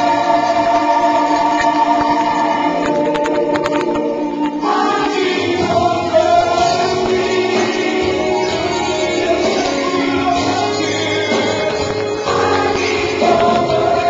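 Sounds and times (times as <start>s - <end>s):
choir singing gospel song: 0.0s - 14.0s.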